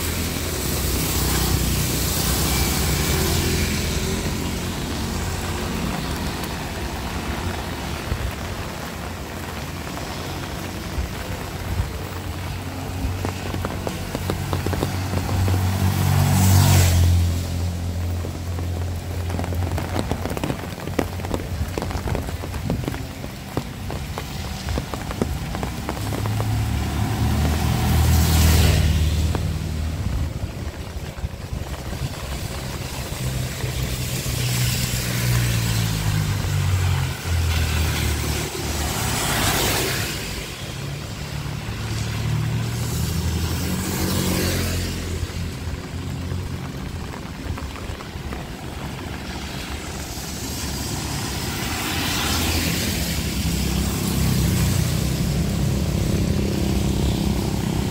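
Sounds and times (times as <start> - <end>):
heavy rain: 0.0 - 57.9
vehicles passing: 0.0 - 57.9.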